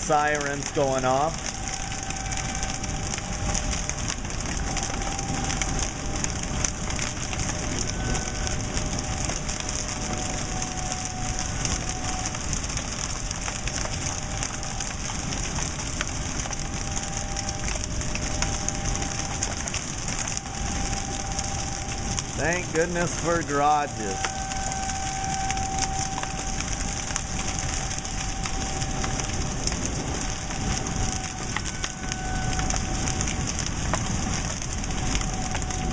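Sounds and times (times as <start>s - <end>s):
distant warning siren: 0.0s - 35.9s
hail pelting down: 0.0s - 35.9s.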